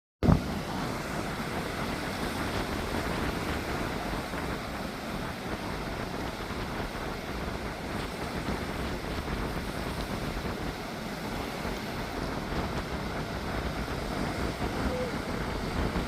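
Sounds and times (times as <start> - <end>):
ocean surf rushing: 0.2 - 16.0
wind buffeting microphone: 0.2 - 16.0.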